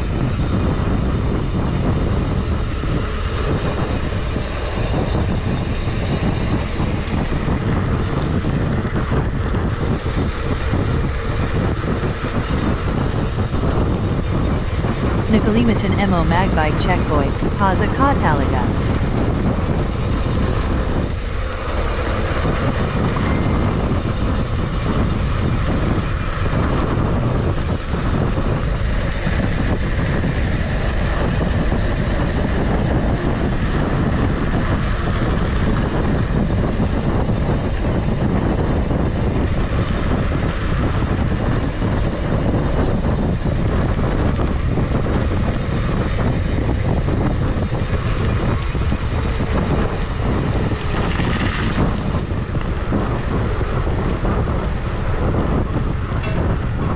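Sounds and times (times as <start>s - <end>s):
wind rushing on microphone: 0.0s - 56.9s.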